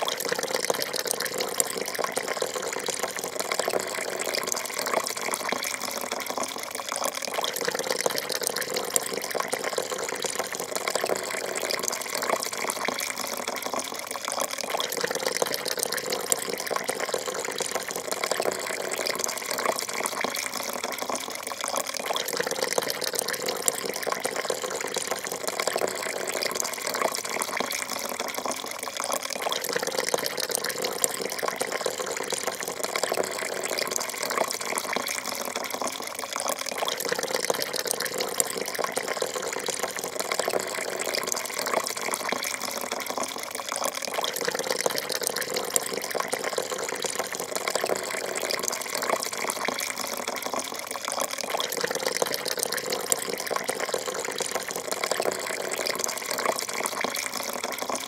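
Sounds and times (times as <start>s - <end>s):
coffee pouring into cup: 0.0s - 58.0s.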